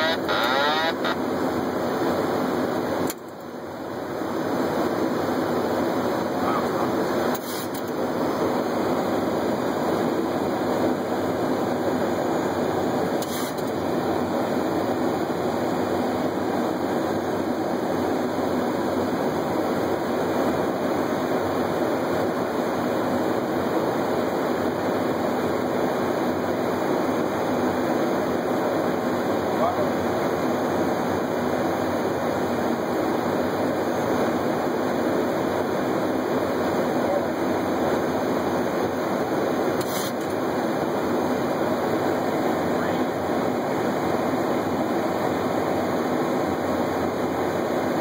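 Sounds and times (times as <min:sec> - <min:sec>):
rushing air and aircraft engines: 0:00.9 - 0:48.0.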